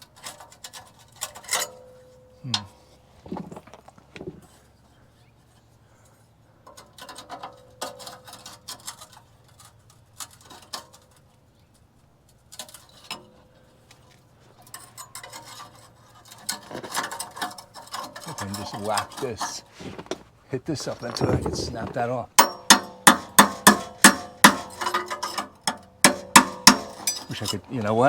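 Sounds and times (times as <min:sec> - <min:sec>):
hand tools on metal: 0:00.0 - 0:04.7, 0:05.5 - 0:28.0.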